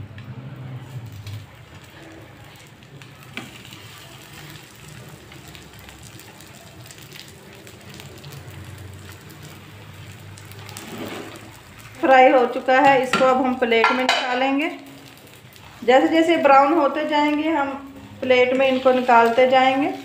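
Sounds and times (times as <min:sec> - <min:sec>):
food sizzling in frying pan: 0:00.6 - 0:20.0
small crackles: 0:00.9 - 0:12.8, 0:14.7 - 0:20.0.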